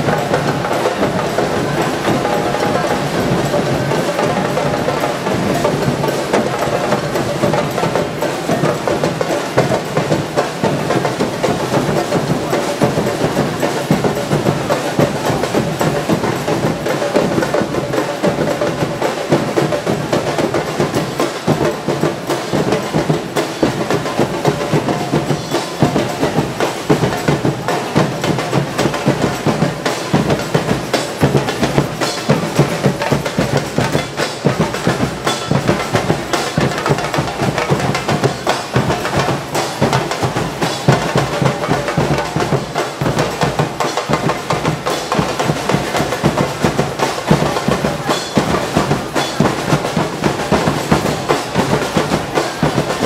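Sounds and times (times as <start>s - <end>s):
cymbals: 0.0s - 53.0s
marching percussion band: 0.0s - 53.0s.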